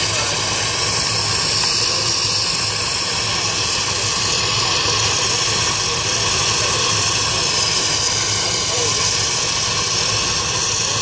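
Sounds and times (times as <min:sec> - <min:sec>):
steam engine exhaust hissing: 0:00.0 - 0:11.0.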